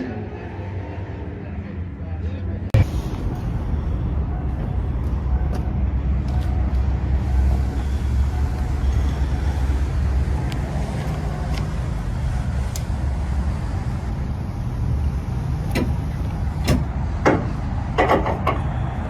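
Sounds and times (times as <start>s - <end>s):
car engine rumbling at low revs: 2.7s - 19.0s.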